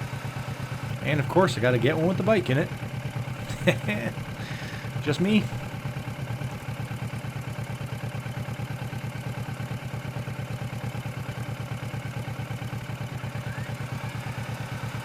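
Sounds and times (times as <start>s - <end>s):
motorcycle engine idling: 0.2s - 15.0s.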